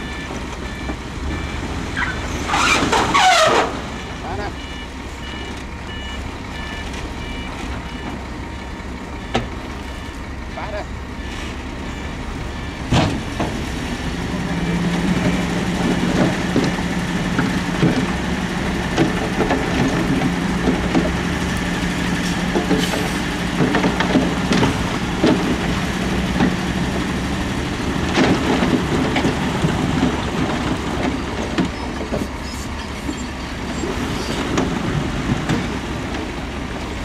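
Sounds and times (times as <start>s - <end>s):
diesel engine drone: 0.0s - 37.0s.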